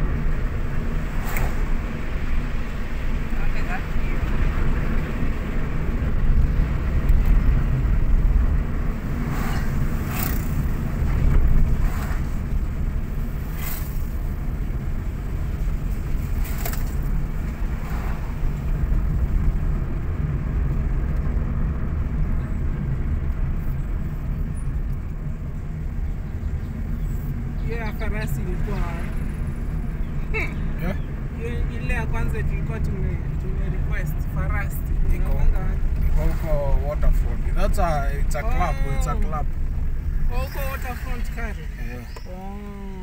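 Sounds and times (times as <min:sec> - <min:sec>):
car interior engine and road noise: 0:00.0 - 0:43.0.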